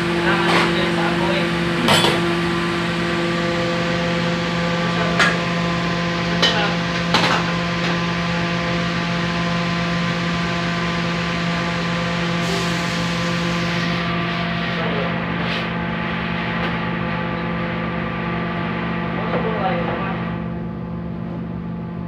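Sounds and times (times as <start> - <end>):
gas burner roaring: 0.0 - 22.0.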